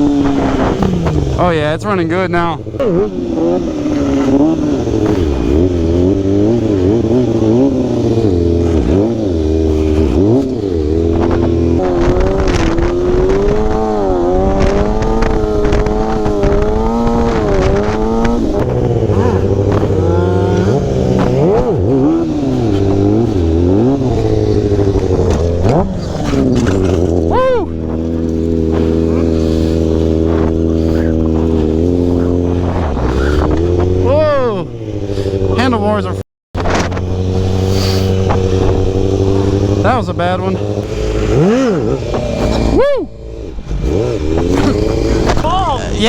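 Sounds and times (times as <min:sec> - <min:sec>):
wind buffeting microphone: 0:00.0 - 0:35.6, 0:36.6 - 0:46.0
motorcycle engine revving: 0:00.0 - 0:46.0.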